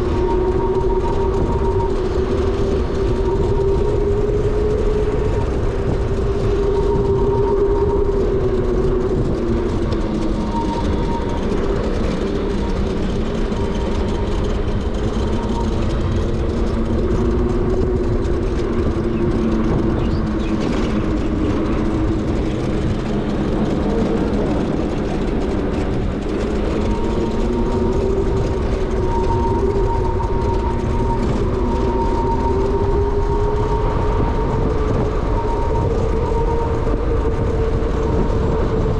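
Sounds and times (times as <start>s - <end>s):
electric motor whine: 0.0s - 38.9s
wind and road rumble: 0.0s - 38.9s.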